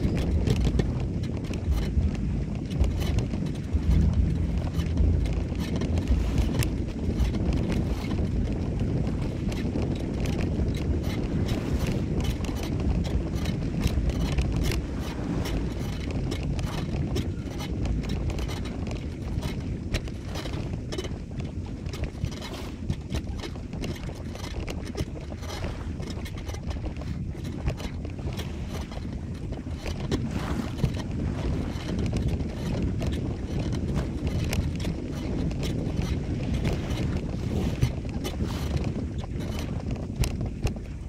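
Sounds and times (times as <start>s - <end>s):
small clicks and scrapes: 0.0s - 41.0s
wind rumbling on microphone: 0.0s - 41.0s.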